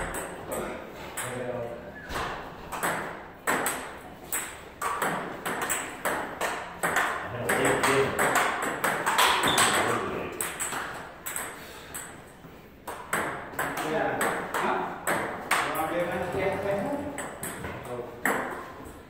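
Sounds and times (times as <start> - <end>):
table tennis ball hits: 0.0 - 1.4, 2.2 - 12.2, 12.8 - 18.9.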